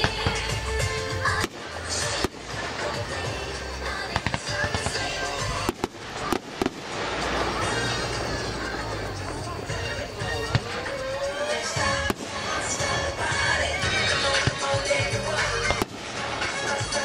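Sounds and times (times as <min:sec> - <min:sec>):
fireworks bangs and crackling pops: 0:00.0 - 0:17.0.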